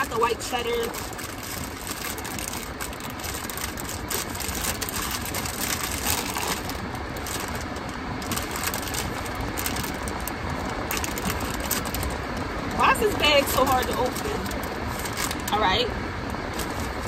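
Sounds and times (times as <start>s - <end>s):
snack bag crinkling: 0.0s - 12.4s, 13.6s - 15.6s.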